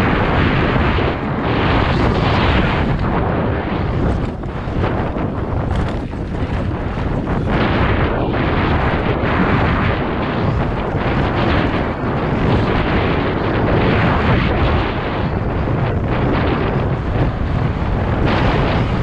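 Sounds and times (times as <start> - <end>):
bike rattling over rough ground: 0.0 - 19.0
wind buffeting microphone: 0.0 - 19.0.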